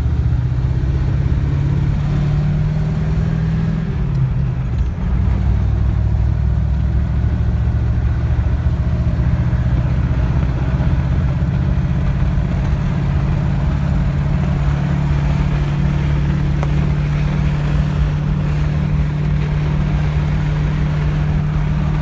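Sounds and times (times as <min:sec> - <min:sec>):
car engine droning: 0:00.0 - 0:22.0
wind and road noise: 0:00.0 - 0:22.0.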